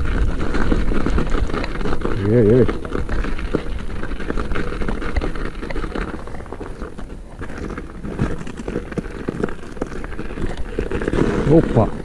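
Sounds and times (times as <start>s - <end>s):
bicycle tyres crunching on snow: 0.0s - 12.0s
bike knocking and rattling: 0.0s - 12.0s
wind rumbling on microphone: 0.0s - 12.0s.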